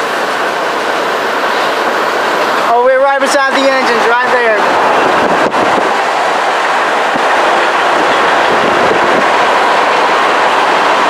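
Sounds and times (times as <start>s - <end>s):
car road and wind noise: 0.0s - 11.0s
freight train rushing past: 0.0s - 11.0s.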